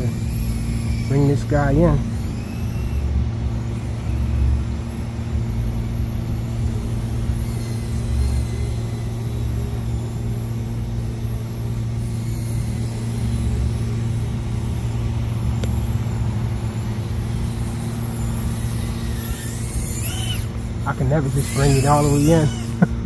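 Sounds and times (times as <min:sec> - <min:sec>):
low hum: 0:00.0 - 0:23.0
quadcopter motors whining: 0:00.0 - 0:23.0.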